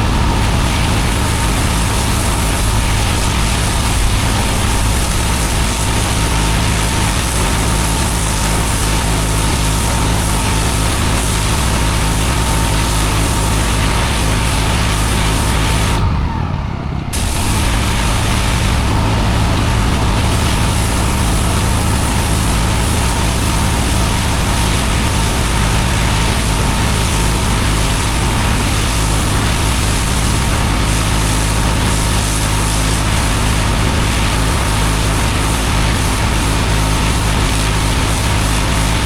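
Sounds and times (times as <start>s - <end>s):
pressure washer engine hum: 0.0s - 39.0s
water jet hissing on paving: 0.0s - 39.0s.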